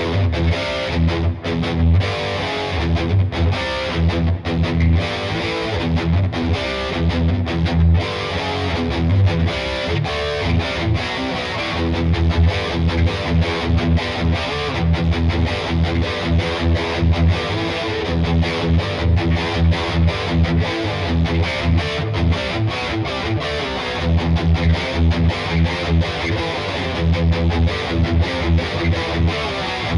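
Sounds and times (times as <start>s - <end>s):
distorted electric guitar: 0.0s - 29.9s.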